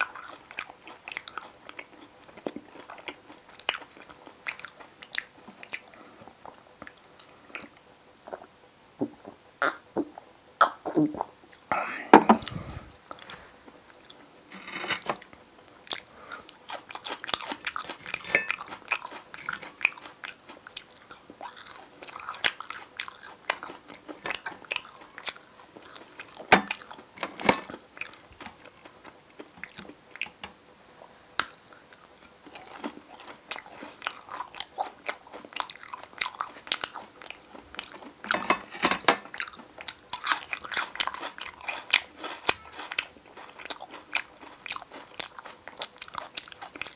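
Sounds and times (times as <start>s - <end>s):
chewing and crunching food: 0.0s - 11.7s, 12.4s - 46.9s.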